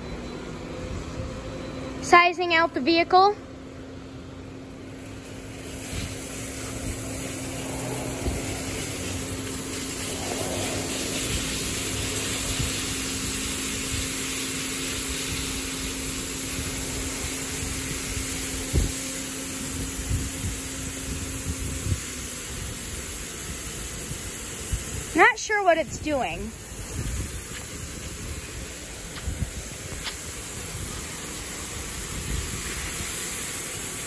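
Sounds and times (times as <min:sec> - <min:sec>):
pump hum: 0:03.6 - 0:34.0
high pressure water spray hiss: 0:04.9 - 0:34.0.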